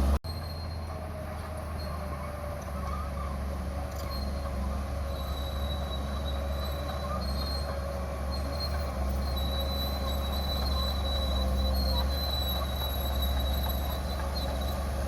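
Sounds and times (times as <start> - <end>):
bulldozer engine drone: 0.0 - 15.0
steel tracks squealing: 0.0 - 15.0.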